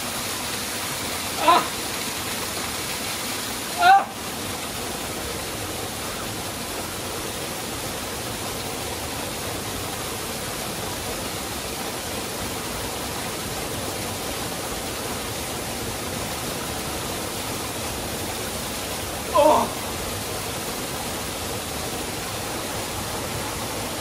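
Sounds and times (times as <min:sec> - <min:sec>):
waterfall pouring into pool: 0:00.0 - 0:24.0.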